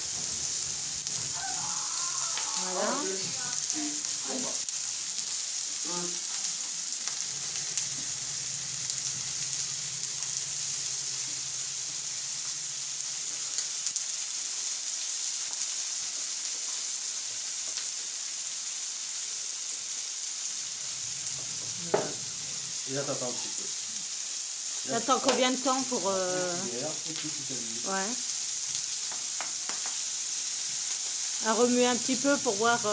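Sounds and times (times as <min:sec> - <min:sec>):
vegetables sizzling on griddle: 0:00.0 - 0:32.9.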